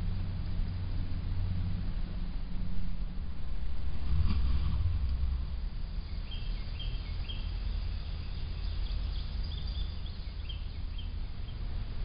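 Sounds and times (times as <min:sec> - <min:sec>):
low rumble: 0:00.0 - 0:10.4.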